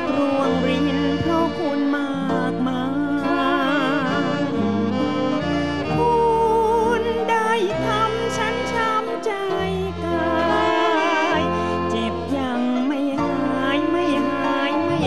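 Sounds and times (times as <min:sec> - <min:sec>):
bass line: 0:00.0 - 0:15.0
live band with saxophones: 0:00.0 - 0:15.0.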